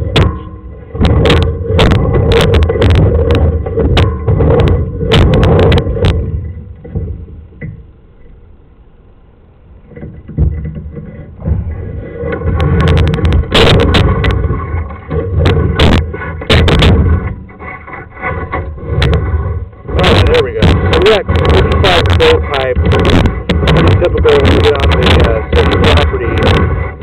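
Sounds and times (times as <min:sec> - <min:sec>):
cable knocking and clattering: 0:00.0 - 0:07.8, 0:09.8 - 0:27.0
low rumble: 0:00.0 - 0:27.0.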